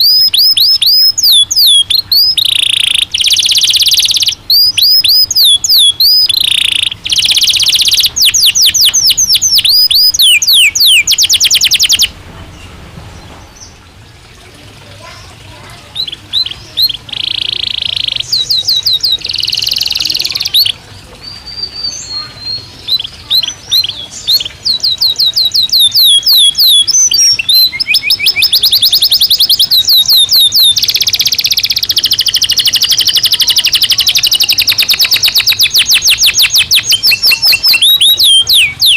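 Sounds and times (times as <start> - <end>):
canary singing: 0.0 - 14.0, 14.9 - 38.9.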